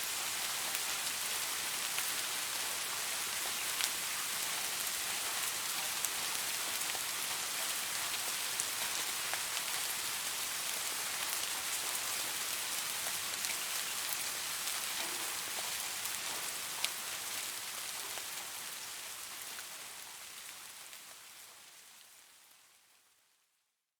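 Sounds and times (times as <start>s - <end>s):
steady rain hiss: 0.0s - 23.6s.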